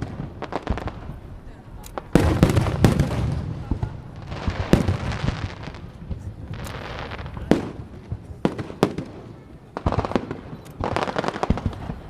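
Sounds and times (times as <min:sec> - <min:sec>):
fireworks bangs: 0:00.0 - 0:12.0
fireworks crackling and rumbling: 0:00.0 - 0:12.0.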